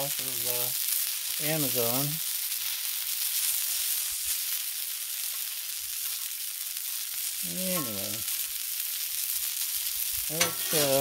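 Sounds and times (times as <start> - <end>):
grease sizzling on griddle: 0.0 - 11.0.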